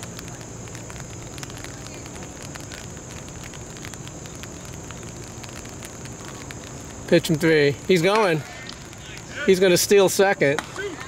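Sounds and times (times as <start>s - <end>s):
faint crackles: 0.0s - 11.0s
steady low hiss: 0.0s - 11.0s.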